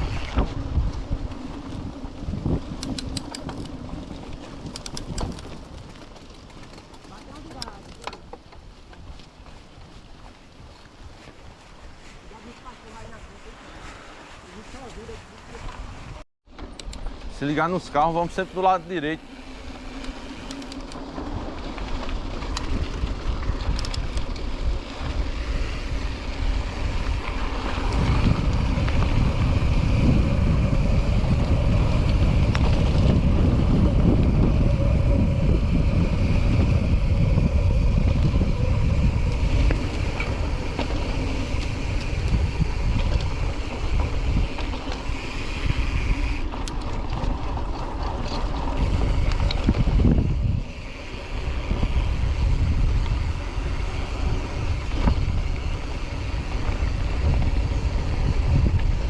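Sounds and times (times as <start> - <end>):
wind buffeting microphone: 0.0 - 16.2, 17.6 - 59.0.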